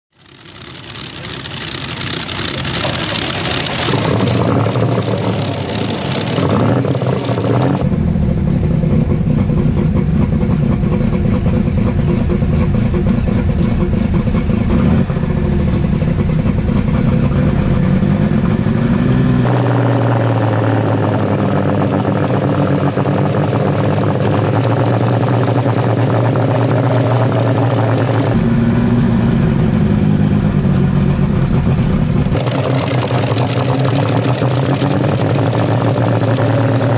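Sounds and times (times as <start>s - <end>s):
loud diesel engine revving: 0.2s - 36.9s.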